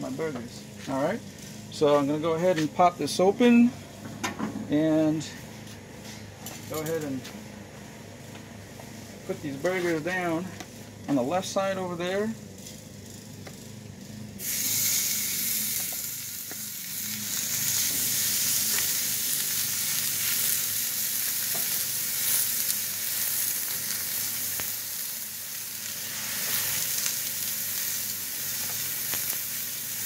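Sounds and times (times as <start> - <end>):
burger patties sizzling on griddle: 0.0 - 3.3, 4.8 - 30.0.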